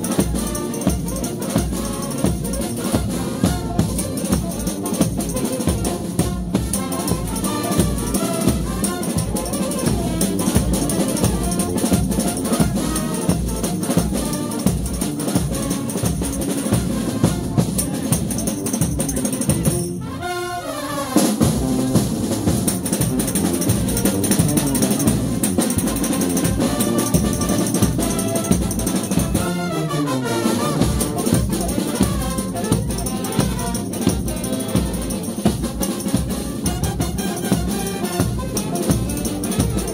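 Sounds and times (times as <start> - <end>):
driving drum beat: 0.0 - 20.0, 21.2 - 39.9
brass street band playing: 0.0 - 39.9.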